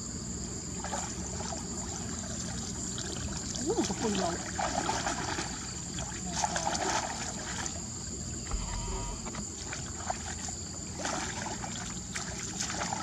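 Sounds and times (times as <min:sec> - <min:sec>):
water trickling and sloshing: 0:00.6 - 0:13.0.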